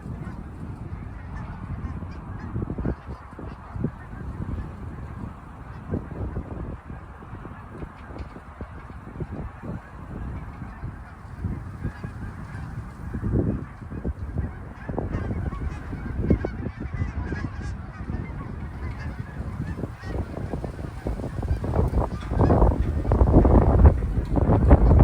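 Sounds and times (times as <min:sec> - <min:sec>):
geese honking in flight: 0:00.1 - 0:25.0.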